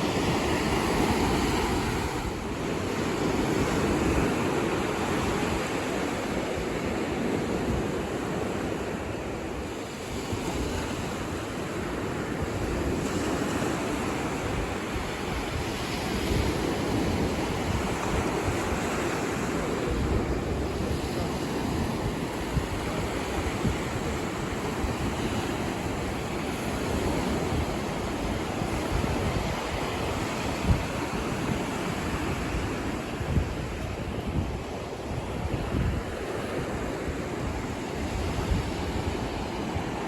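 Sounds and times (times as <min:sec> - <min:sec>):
ocean surf breaking on beach: 0:00.0 - 0:40.0
wind blowing across microphone: 0:00.0 - 0:40.0.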